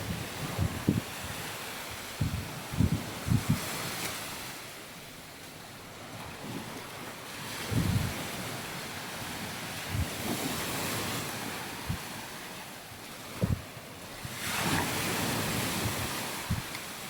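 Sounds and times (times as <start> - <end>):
wind buffeting the microphone: 0.0 - 4.5, 6.2 - 12.4, 13.0 - 17.0
waves washing onto a beach: 0.0 - 17.0.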